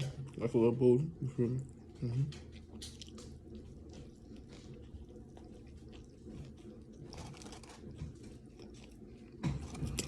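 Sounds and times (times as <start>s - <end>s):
person chewing food: 1.4s - 10.0s.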